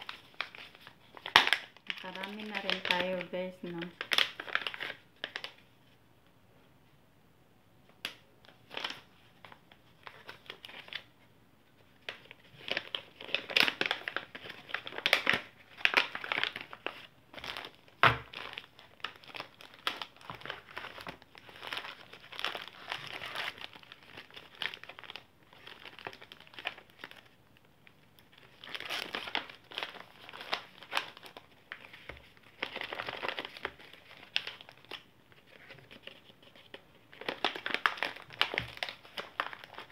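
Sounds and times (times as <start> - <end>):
plastic bags crinkling: 0.0 - 5.6, 11.9 - 27.4, 28.2 - 39.9.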